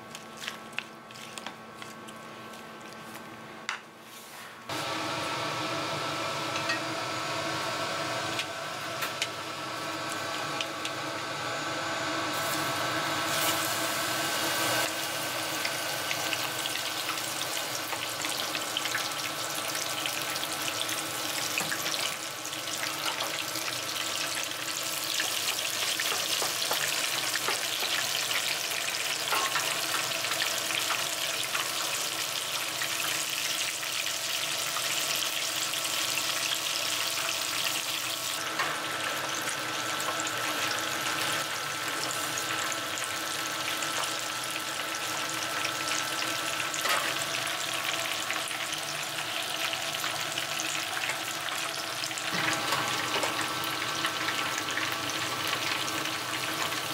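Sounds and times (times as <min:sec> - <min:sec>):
batter deep-frying in hot oil: 0:05.2 - 0:56.9.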